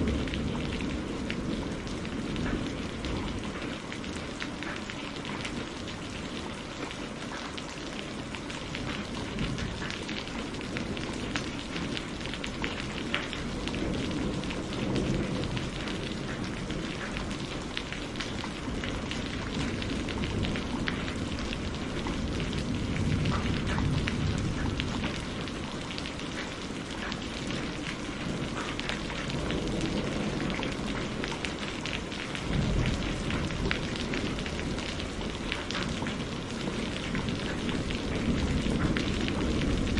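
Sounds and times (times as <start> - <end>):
low rumbles of thunder: 0.0 - 39.9
steady rain pattering: 0.0 - 39.9.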